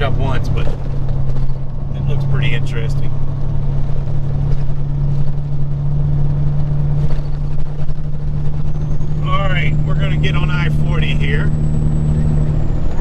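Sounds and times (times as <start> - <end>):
diesel truck engine droning: 0.0 - 13.0.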